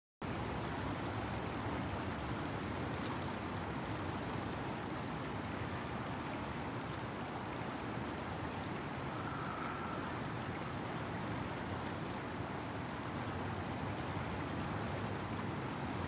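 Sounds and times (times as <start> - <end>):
low rushing background noise: 0.2 - 16.0.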